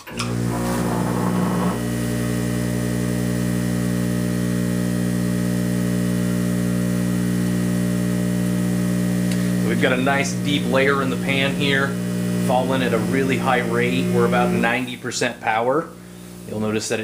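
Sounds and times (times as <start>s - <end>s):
vibratory feeder electric hum: 0.0s - 17.0s.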